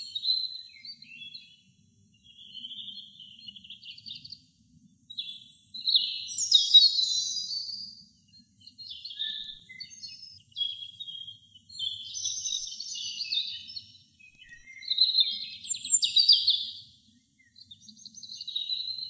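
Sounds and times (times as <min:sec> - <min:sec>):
robin singing: 0:00.0 - 0:19.0.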